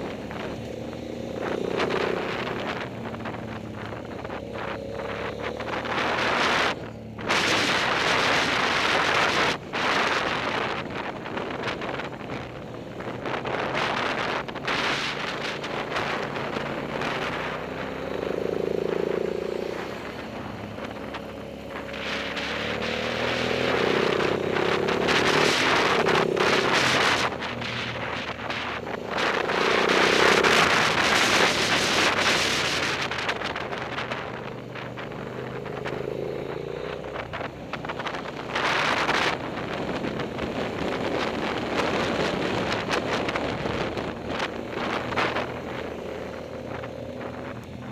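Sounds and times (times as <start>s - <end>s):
motorcycle engine revving: 0.0s - 47.9s
wind buffeting microphone: 0.0s - 47.9s.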